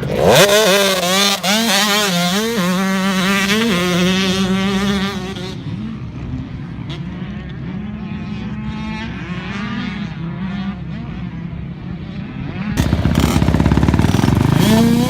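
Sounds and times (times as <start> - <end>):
close dirt bike engine running hard: 0.0 - 15.0
dirt bike engines revving: 0.0 - 15.0.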